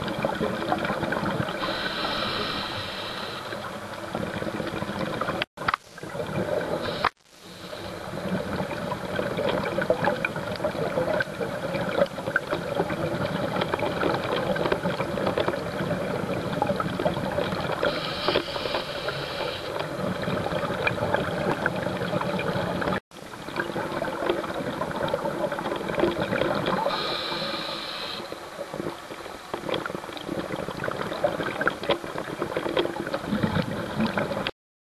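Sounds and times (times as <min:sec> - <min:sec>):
scuba exhaust bubbles gurgling: 0:00.0 - 0:34.5.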